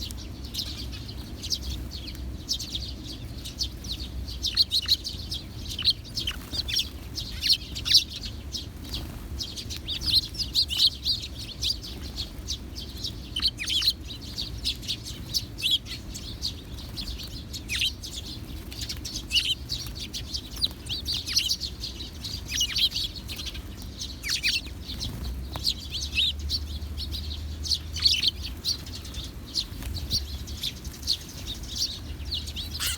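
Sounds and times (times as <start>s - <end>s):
sparrows chirping: 0.0s - 32.9s.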